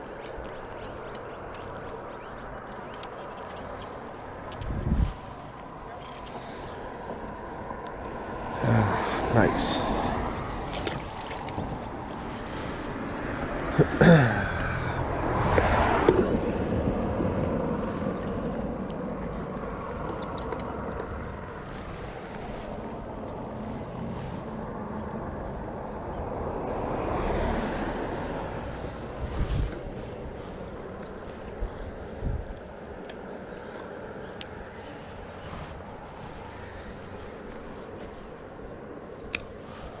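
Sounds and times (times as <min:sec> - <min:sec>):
wind rumbling on microphone: 0:00.0 - 0:14.0, 0:14.6 - 0:40.0.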